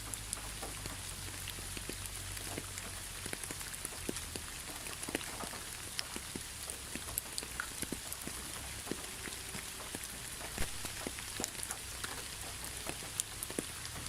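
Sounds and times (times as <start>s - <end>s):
raindrops landing: 0.0s - 14.0s
steady rain hiss: 0.0s - 14.0s.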